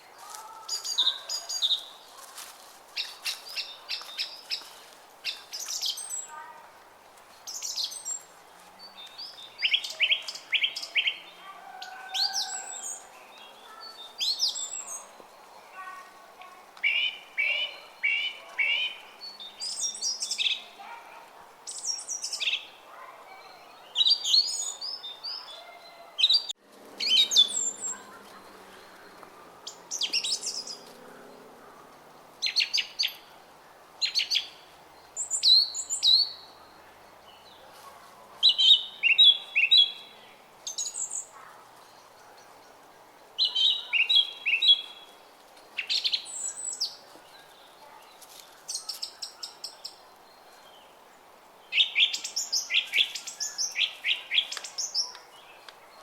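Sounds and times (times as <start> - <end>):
small songbirds chirping: 0.0 - 6.6, 7.2 - 33.4, 34.0 - 56.0.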